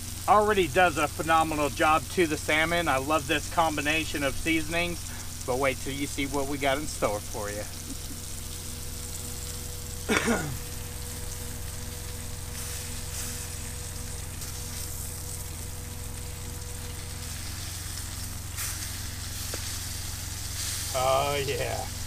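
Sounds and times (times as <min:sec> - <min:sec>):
fish sizzling in a frying pan: 0:00.0 - 0:22.0
low hum: 0:00.0 - 0:22.0.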